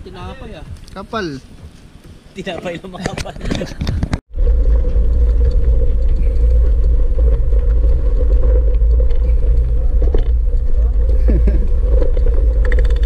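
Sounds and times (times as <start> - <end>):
wind and road noise while riding: 0.0 - 13.0.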